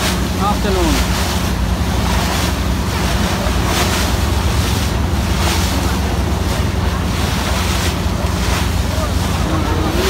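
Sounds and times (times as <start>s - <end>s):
motorboat engine drone: 0.0s - 10.0s
waves hitting boat hull: 0.0s - 10.0s.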